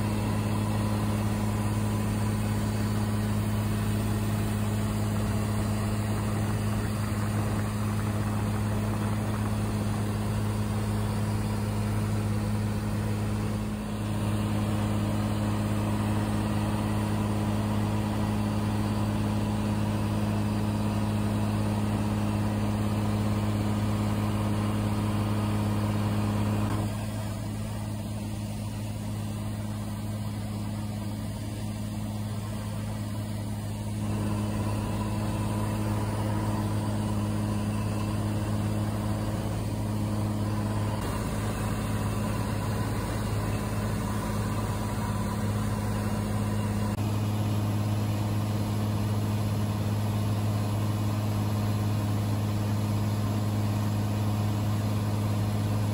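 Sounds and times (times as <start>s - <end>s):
propeller plane engine droning: 0.0s - 55.9s.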